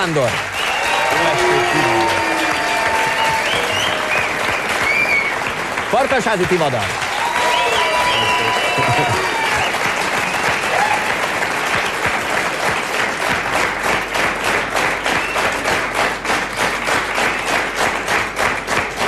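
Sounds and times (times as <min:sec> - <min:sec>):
audience applauding: 0:00.0 - 0:19.0
rhythmic clapping in unison: 0:00.0 - 0:19.0.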